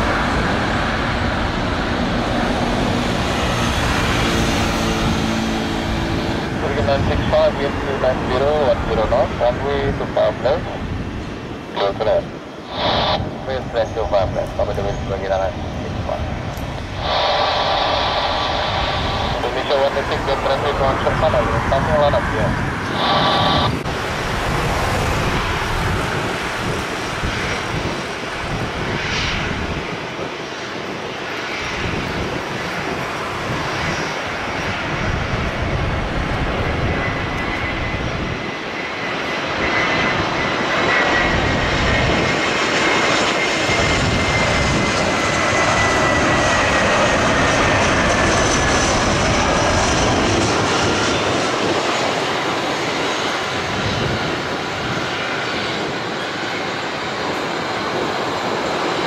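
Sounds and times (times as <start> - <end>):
high engine whine: 0.0 - 59.0
jet engines roaring: 0.0 - 59.0.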